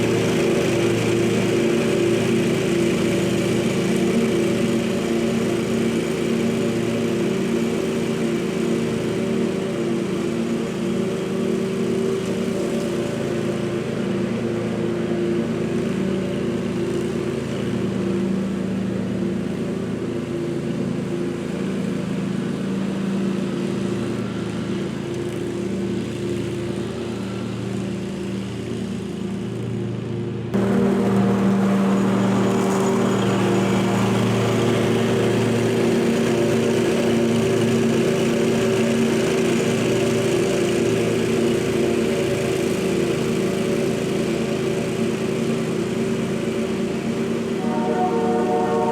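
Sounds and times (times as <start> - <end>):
mower engine running: 0.0 - 48.9.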